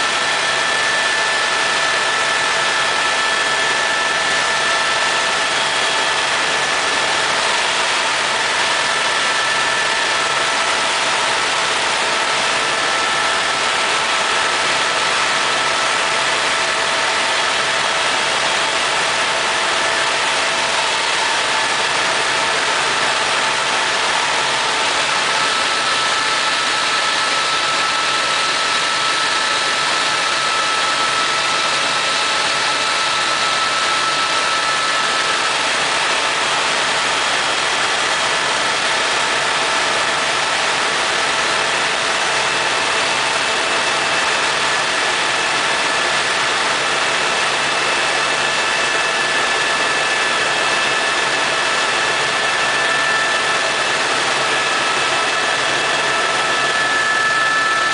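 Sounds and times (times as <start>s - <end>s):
constant whining tones: 0.0s - 57.9s
helicopter engine and rotor noise: 0.0s - 57.9s.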